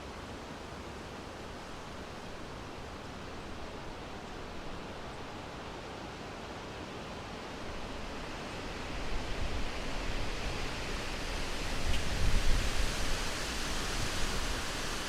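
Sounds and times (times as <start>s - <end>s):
wind rushing through forest: 0.0s - 15.0s.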